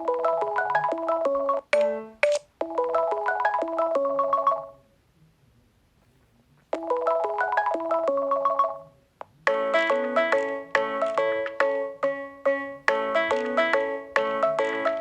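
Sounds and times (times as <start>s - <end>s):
phone ringtone melody: 0.0s - 4.8s, 6.8s - 15.0s.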